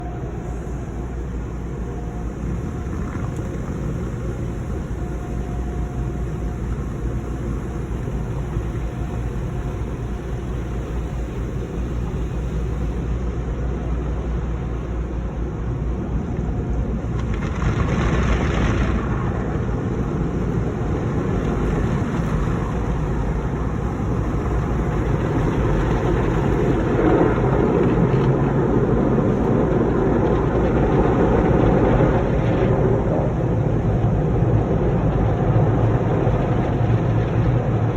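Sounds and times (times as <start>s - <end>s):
car wash rumbling: 0.0s - 37.9s.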